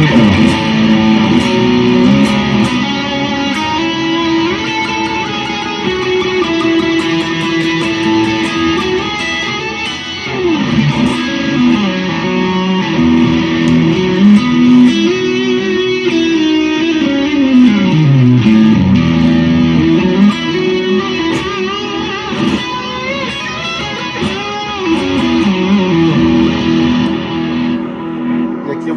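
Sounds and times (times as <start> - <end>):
overdriven electric guitar lead: 0.0 - 28.9.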